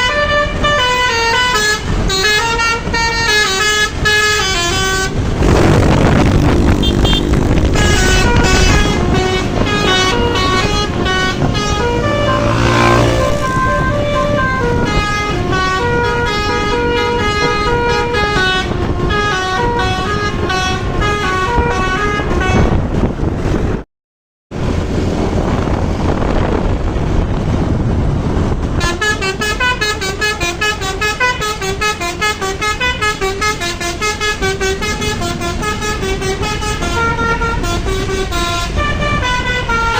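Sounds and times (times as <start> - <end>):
musical air horns playing tune: 0.0 - 23.0, 28.8 - 39.9
bus engines and traffic: 0.0 - 23.9, 24.5 - 39.9.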